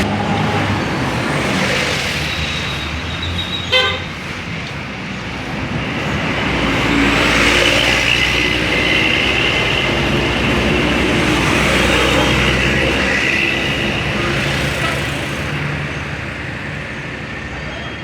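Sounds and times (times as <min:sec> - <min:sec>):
bus passing: 0:00.0 - 0:18.0.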